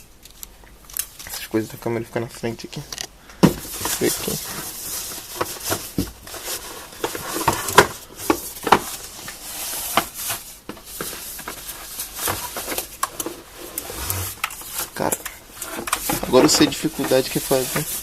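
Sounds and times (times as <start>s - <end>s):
packaging rustling and scraping: 3.5s - 18.0s.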